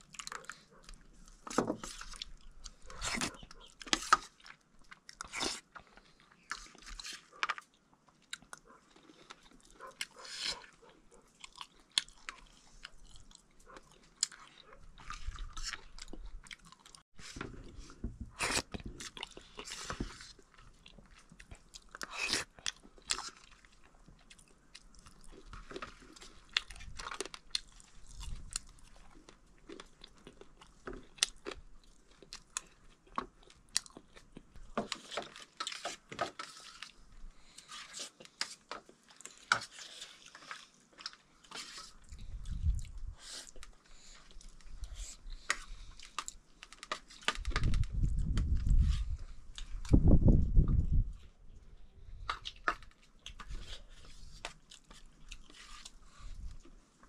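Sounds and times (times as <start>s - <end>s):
man chewing and crunching food: 0.0s - 57.0s.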